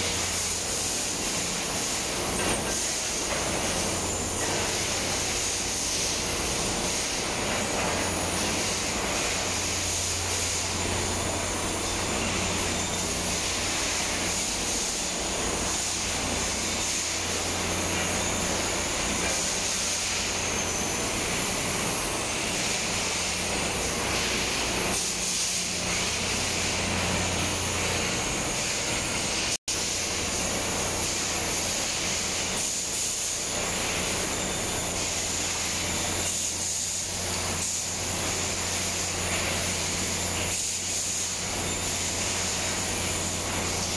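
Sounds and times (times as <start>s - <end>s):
motors and conveyors humming: 0.0s - 43.9s.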